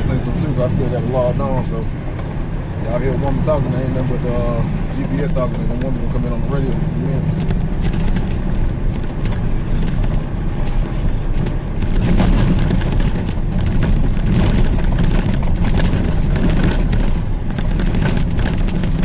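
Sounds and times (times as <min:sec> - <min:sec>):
rattles: 0:00.0 - 0:19.0
truck engine rumbling: 0:00.0 - 0:19.0.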